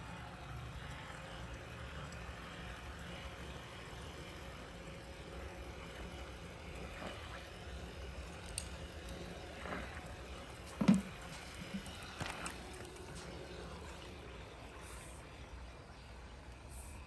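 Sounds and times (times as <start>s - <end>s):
pool vacuum humming underwater: 0.0s - 17.0s.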